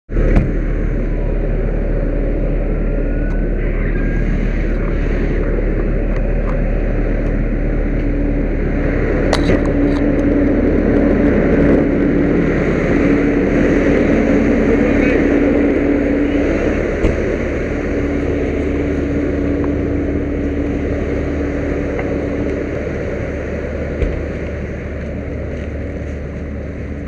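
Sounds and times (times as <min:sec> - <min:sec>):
fire engine rumbling: 0:00.1 - 0:27.0.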